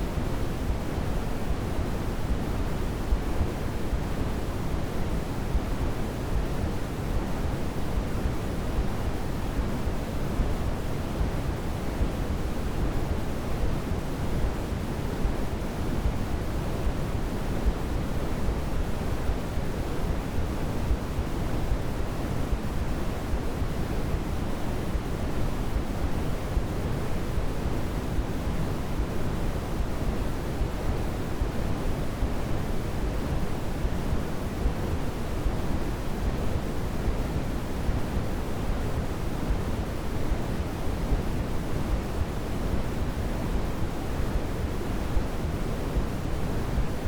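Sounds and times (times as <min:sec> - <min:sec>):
low-weighted noise hiss: 0:00.0 - 0:47.0.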